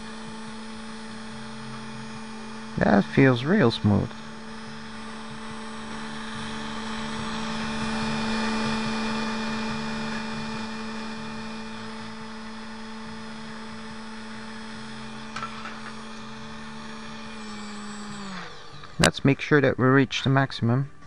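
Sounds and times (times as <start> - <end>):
electric motor humming: 0.0 - 21.0.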